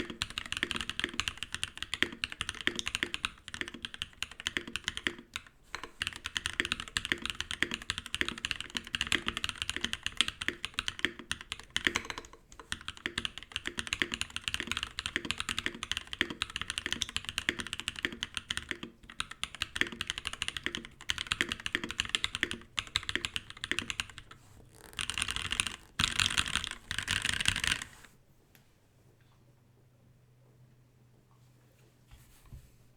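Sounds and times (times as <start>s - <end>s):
mechanical keyboard typing: 0.0s - 28.1s.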